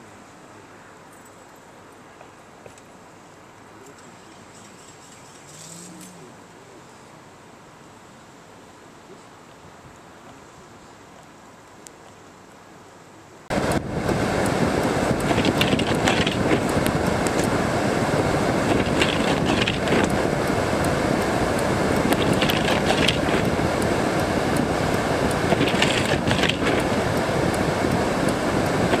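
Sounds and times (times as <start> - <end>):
road and wind noise from vehicle: 0.0 - 29.0.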